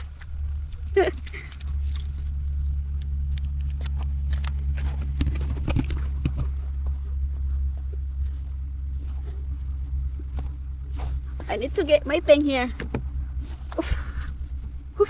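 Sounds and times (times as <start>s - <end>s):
crunching footsteps: 0.0s - 15.0s
vehicle engine idling: 0.0s - 15.0s.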